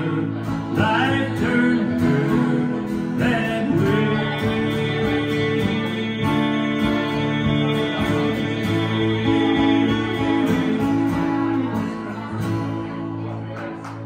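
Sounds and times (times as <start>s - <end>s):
acoustic guitars strumming: 0.0s - 14.0s.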